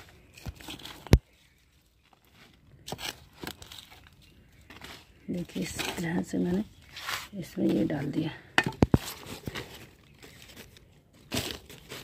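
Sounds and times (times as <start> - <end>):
rustling of compost and plastic: 0.0 - 12.0.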